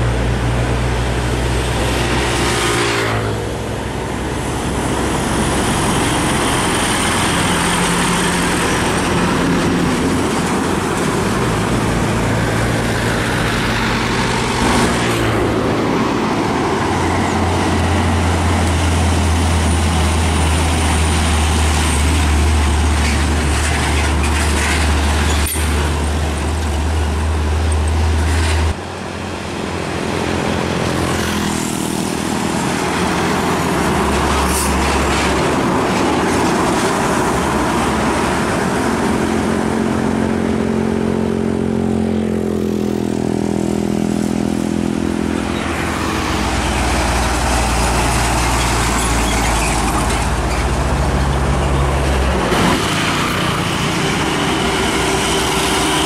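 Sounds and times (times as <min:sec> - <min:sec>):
truck engines passing: 0:00.0 - 0:56.0
tyre and road noise: 0:00.0 - 0:56.0.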